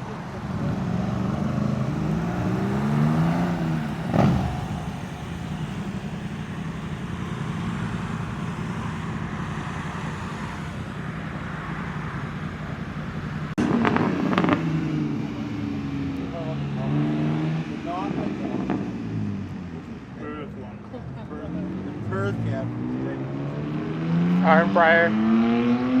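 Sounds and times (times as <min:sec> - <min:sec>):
engine droning: 0:00.0 - 0:26.0
engine revving: 0:00.0 - 0:26.0.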